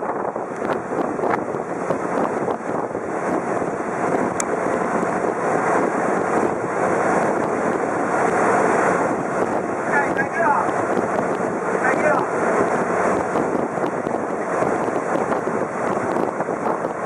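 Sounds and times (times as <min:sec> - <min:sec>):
boat engine drone: 0:00.0 - 0:17.0
water washing past hull: 0:00.0 - 0:17.0
wind buffeting microphone: 0:00.0 - 0:17.0.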